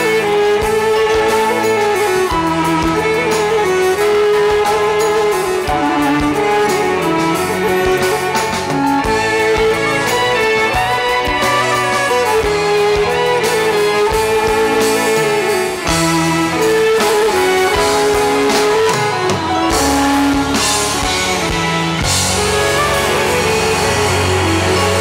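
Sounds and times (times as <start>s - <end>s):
band with bass and drums: 0.0s - 25.0s
bowed fiddle melody: 0.0s - 25.0s.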